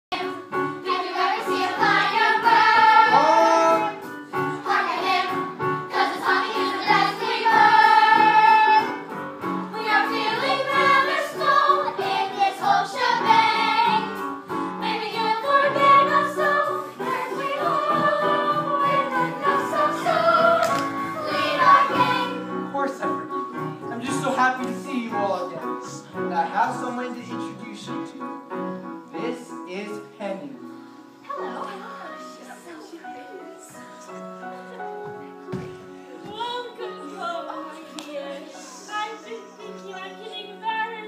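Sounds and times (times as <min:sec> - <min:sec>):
choir singing with music: 0:00.1 - 0:41.0.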